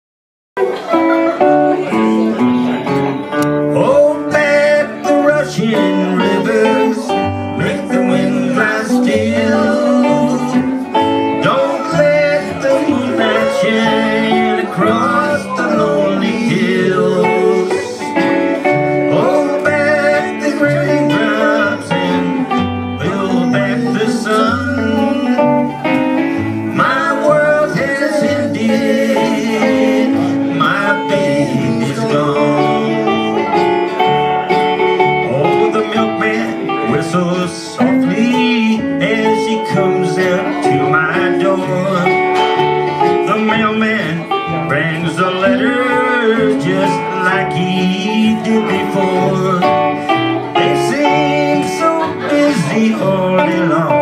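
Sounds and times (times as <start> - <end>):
plucked guitar lines: 0.6 - 54.0
upright bass notes: 0.6 - 54.0.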